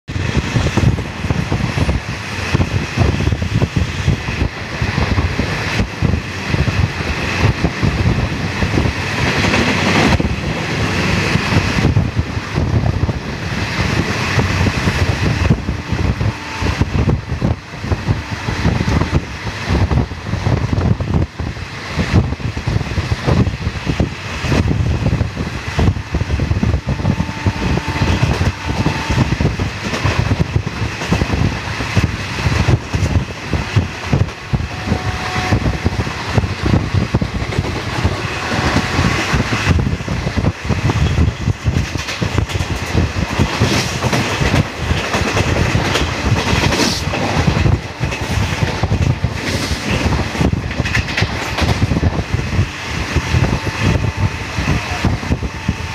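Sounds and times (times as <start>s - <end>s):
train wheels rumbling on rails: 0.0s - 55.9s
wind buffeting microphone: 0.1s - 55.9s.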